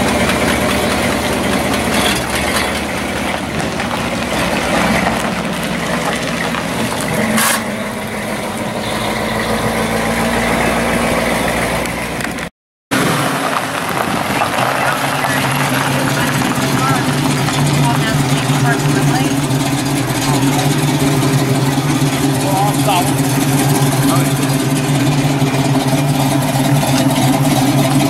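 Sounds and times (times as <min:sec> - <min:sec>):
car engine idling and pulling away: 0:00.0 - 0:28.0.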